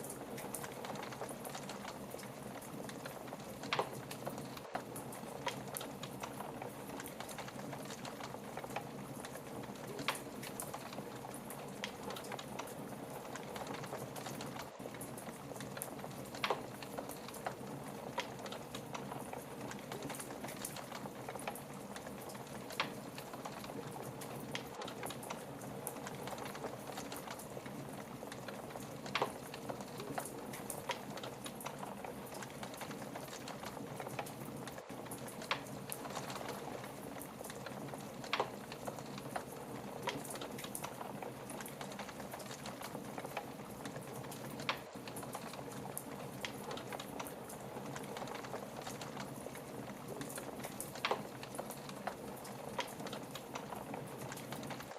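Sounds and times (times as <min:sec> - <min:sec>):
fire popping: 0:00.0 - 0:54.9
fireplace fire crackling: 0:00.0 - 0:54.9.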